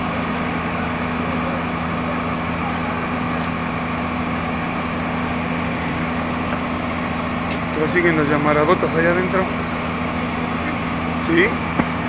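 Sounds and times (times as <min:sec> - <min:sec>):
mechanical drone with low hum: 0:00.0 - 0:12.0.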